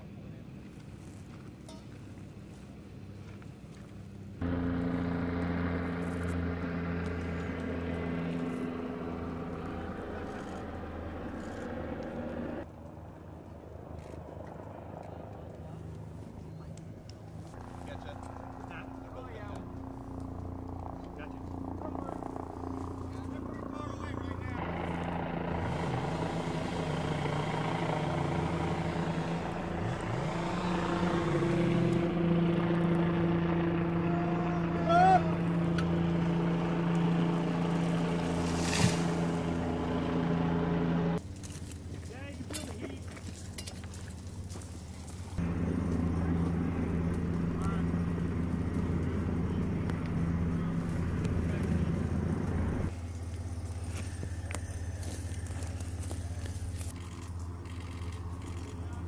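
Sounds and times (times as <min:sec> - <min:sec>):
helicopter engine and rotor drone: 0:03.0 - 0:41.4, 0:45.4 - 0:59.0.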